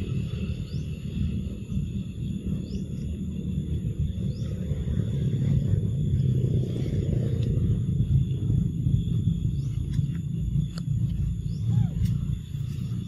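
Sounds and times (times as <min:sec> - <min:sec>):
high-pitched insect drone: 0:00.0 - 0:13.0
low rumble: 0:00.0 - 0:13.0.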